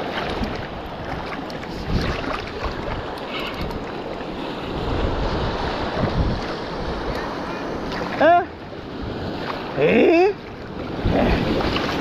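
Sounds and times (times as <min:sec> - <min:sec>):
wind buffeting microphone: 0:00.0 - 0:09.8, 0:10.4 - 0:12.0
surf washing: 0:00.0 - 0:12.0.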